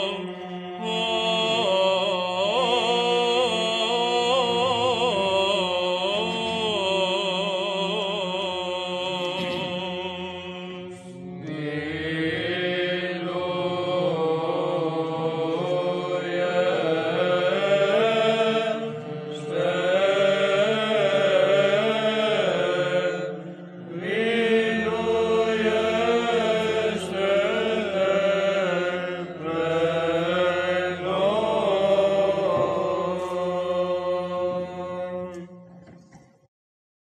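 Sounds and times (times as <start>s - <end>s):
male voices chanting: 0.0s - 35.5s.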